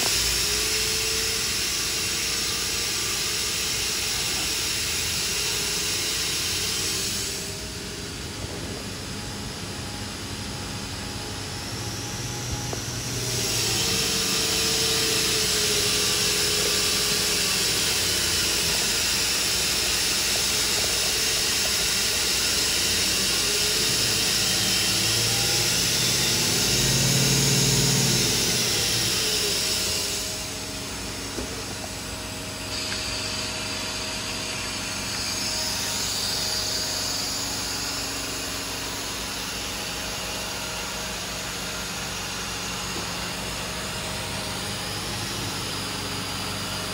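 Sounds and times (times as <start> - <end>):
machine spindle whine: 0.0 - 46.9.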